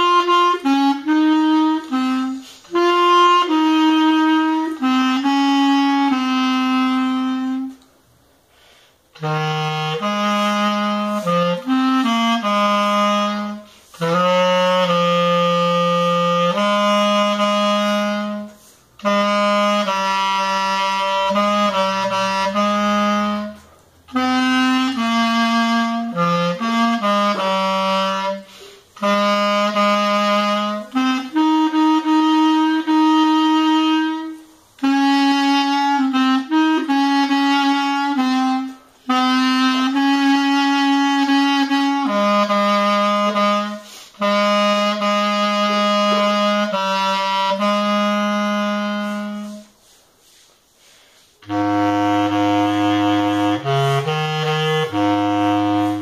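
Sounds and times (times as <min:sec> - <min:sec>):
alto clarinet playing hymn melody: 0:00.0 - 0:07.9, 0:08.7 - 0:50.4, 0:51.1 - 0:56.0.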